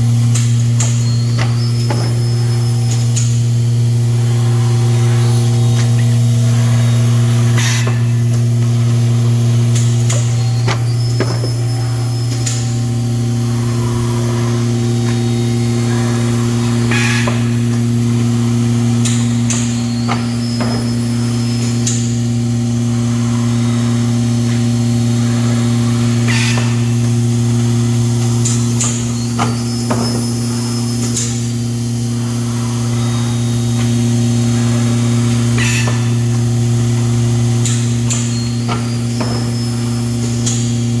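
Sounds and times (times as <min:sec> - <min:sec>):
low electric hum: 0:00.0 - 0:41.0.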